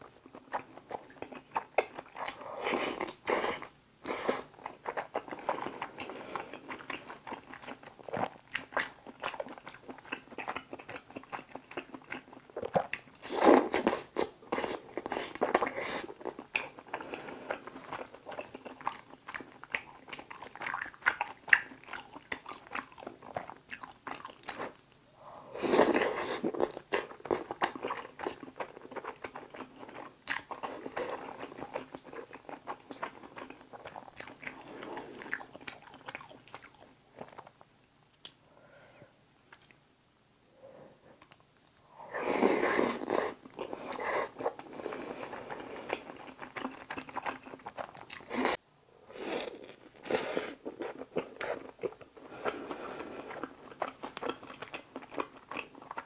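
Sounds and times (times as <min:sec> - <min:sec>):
close chewing and biting: 0:00.2 - 0:37.5, 0:42.9 - 0:48.6, 0:49.4 - 0:56.0.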